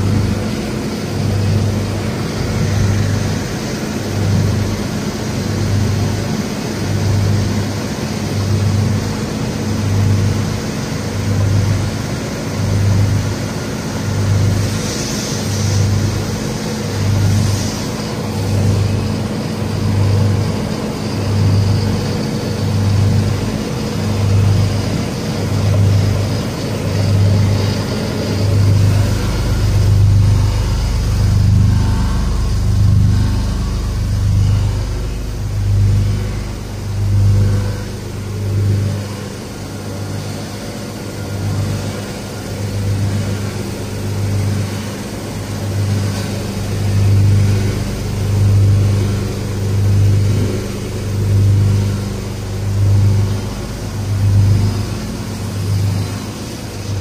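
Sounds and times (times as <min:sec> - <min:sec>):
cable granulator humming: 0:00.0 - 0:57.0.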